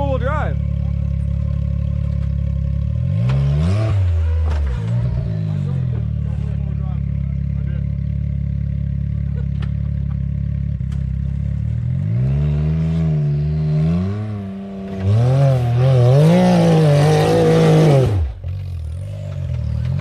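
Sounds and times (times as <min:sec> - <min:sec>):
engine idling and revving: 0:00.0 - 0:20.0.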